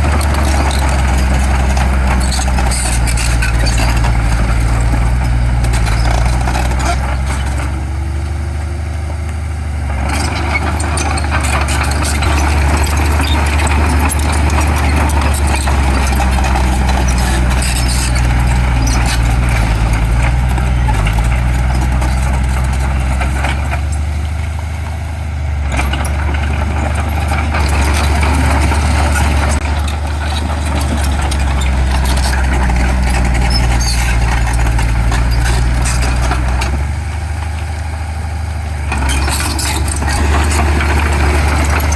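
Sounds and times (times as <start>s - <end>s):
rattling clatter: 0.0s - 8.0s, 9.9s - 24.2s, 25.6s - 37.7s, 38.8s - 41.9s
heavy diesel engine running: 0.0s - 41.9s.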